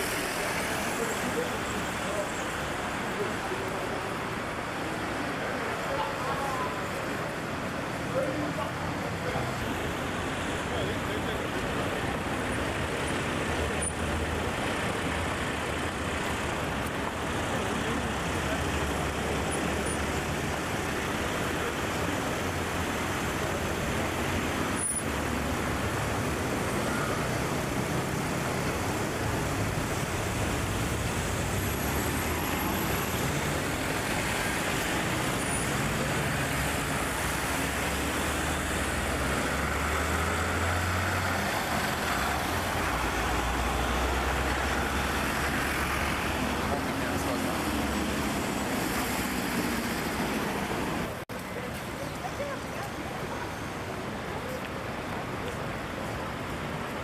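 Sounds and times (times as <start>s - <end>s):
cars driving past: 0.0s - 51.2s.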